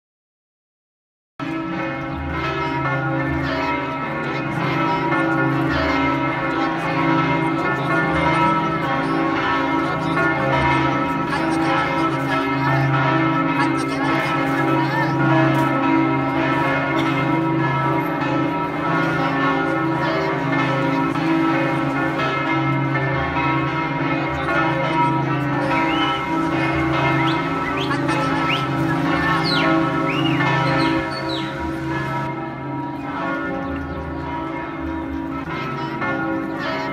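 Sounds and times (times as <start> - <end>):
church bells ringing: 1.4 - 36.9.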